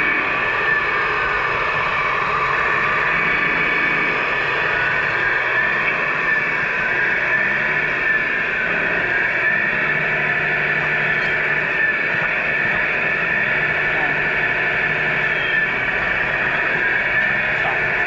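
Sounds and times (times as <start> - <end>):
radio-controlled trucks whirring: 0.0 - 18.0.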